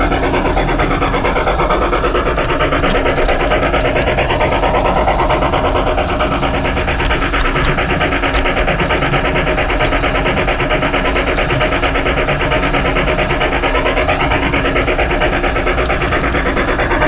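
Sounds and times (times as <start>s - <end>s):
model steam locomotive clatter: 0.0s - 17.0s.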